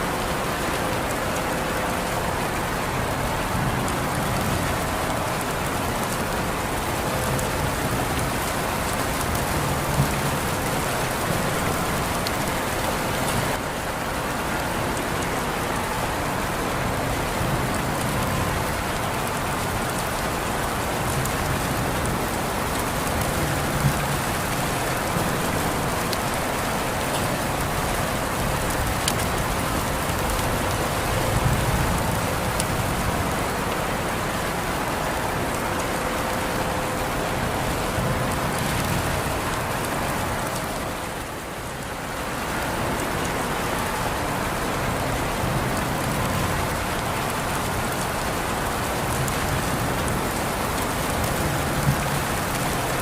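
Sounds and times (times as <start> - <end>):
steady rain falling: 0.0 - 53.0
rain drop ticks: 0.2 - 53.0.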